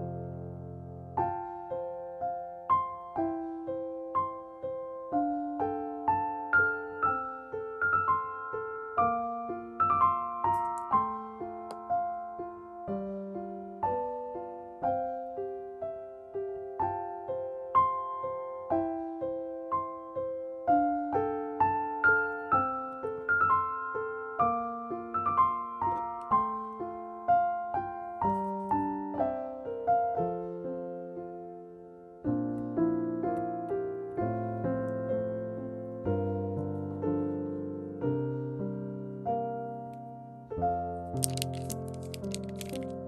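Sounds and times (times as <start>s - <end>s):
gentle piano music: 0.0s - 43.0s.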